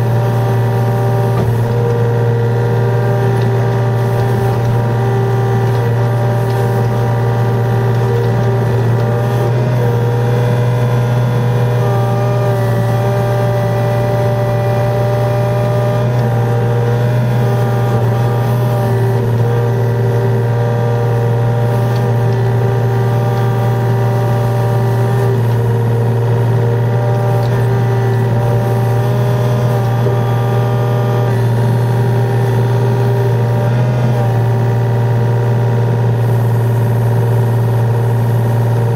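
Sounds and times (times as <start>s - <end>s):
diesel engine hum: 0.0s - 38.9s
hydraulic whine: 0.0s - 38.9s.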